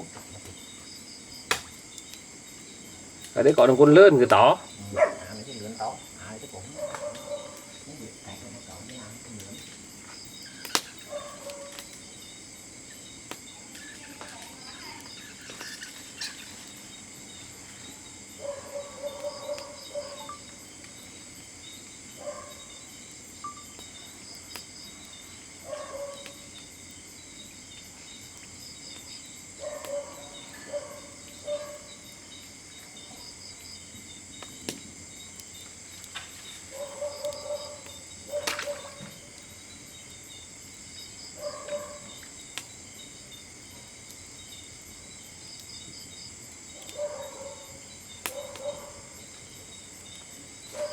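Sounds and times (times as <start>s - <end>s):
night insects chirring: 0.0s - 50.9s.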